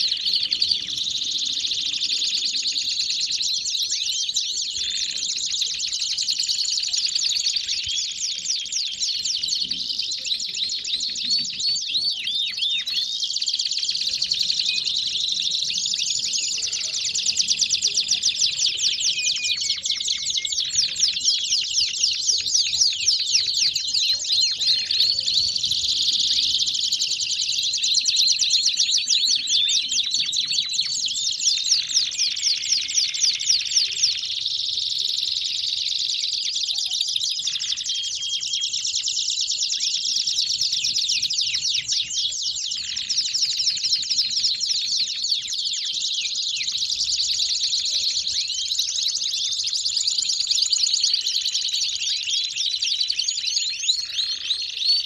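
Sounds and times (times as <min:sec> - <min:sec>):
canaries singing: 0:00.0 - 0:55.0.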